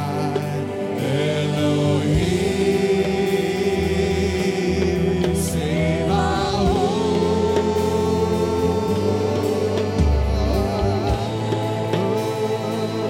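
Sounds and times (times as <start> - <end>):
bass guitar: 0.0 - 13.0
keyboard chords: 0.0 - 13.0
person singing long notes: 0.0 - 13.0.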